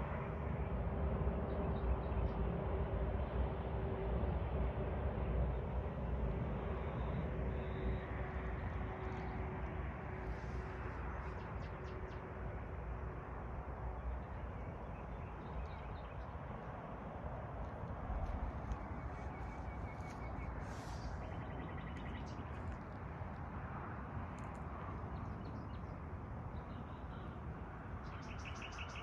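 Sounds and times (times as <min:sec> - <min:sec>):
faint hum: 0:00.0 - 0:29.0
steady low rumble: 0:00.0 - 0:29.0.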